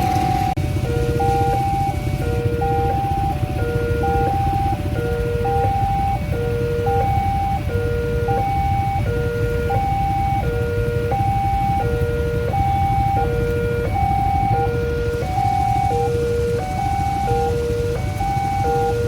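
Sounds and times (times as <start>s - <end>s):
level crossing warning alarm: 0.0s - 19.0s.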